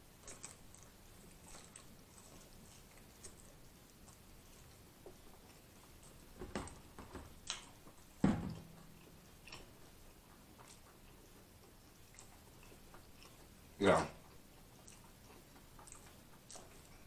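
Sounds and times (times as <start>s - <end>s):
wet chewing smacks: 0.0s - 17.0s.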